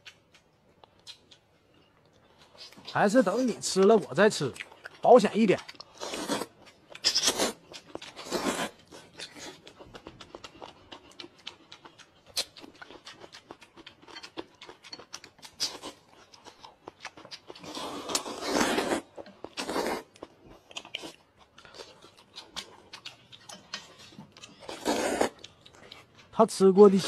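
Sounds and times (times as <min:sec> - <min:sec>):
chewing and crunching: 0:00.0 - 0:27.0.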